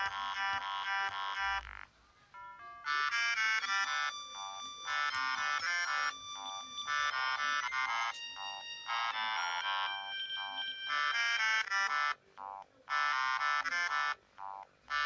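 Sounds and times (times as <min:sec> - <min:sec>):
mobile phone ringtone melody: 0:00.0 - 0:01.8, 0:02.4 - 0:15.0.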